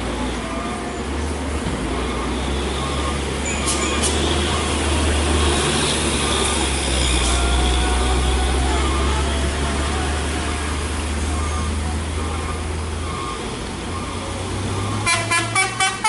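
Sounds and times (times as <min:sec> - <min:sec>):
heavy vehicle engine rumble: 0:00.0 - 0:16.0
road traffic noise: 0:00.0 - 0:16.0.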